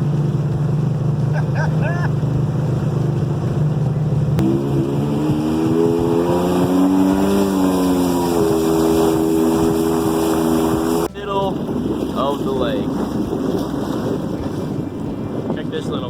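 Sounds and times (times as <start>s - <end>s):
jet ski engine revving: 0.0s - 16.0s.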